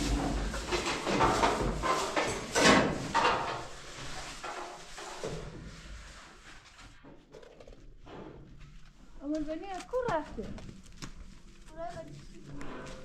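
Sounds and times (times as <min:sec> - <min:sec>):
scraping and rubbing strokes: 0:00.0 - 0:09.9, 0:10.6 - 0:13.0.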